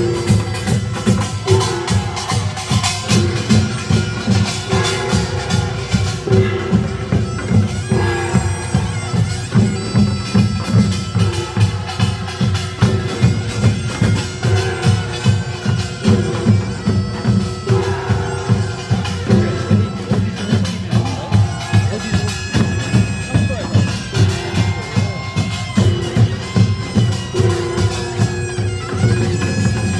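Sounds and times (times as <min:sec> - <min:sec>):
drums and gongs beating: 0:00.0 - 0:29.9
reed shawm melody: 0:00.0 - 0:29.9.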